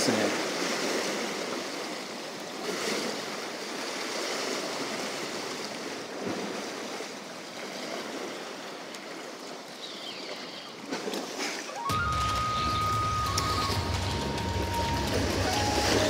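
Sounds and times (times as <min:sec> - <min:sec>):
surf splashing against rocks: 0:00.0 - 0:16.0.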